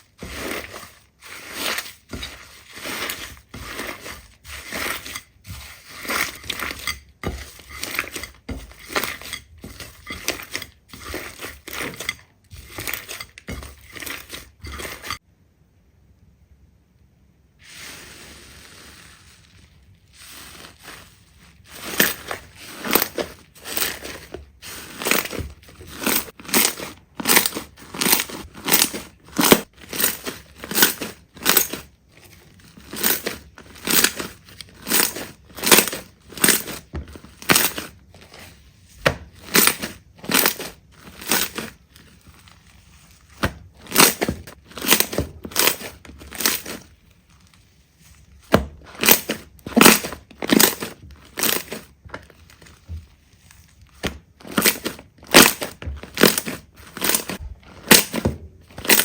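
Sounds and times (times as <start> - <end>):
slime squishing by hand: 0.0 - 15.2, 17.6 - 59.0.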